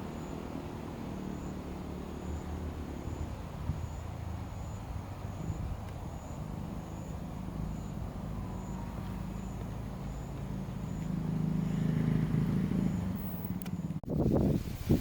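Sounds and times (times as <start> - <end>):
low motor hum: 0.0 - 14.2.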